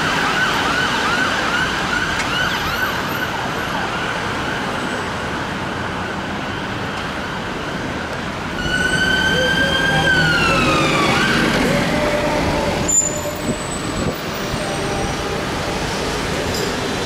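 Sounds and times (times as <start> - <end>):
ambulance siren wailing: 0.0 - 6.2, 8.6 - 16.6
street traffic: 0.0 - 17.0.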